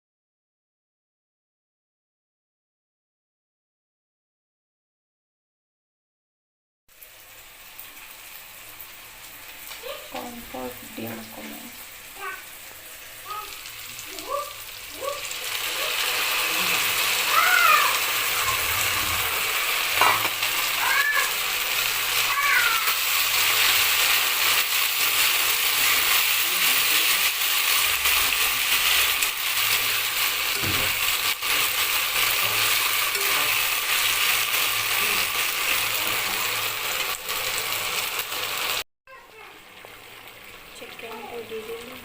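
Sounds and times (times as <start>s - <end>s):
food sizzling in hot oil: 6.9s - 42.0s.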